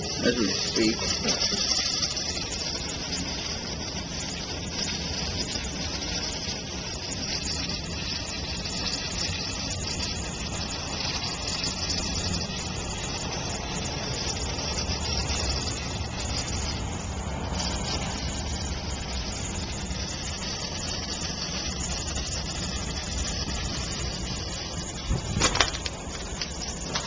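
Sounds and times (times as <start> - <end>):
gas hissing from soda bottles: 0.0 - 27.0.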